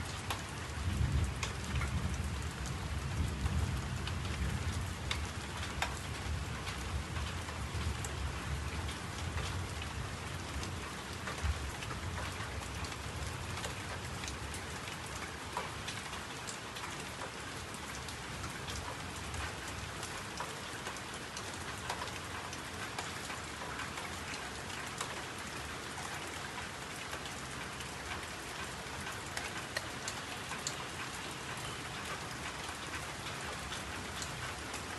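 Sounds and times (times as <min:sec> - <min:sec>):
rain on a hard surface: 0:00.0 - 0:34.9.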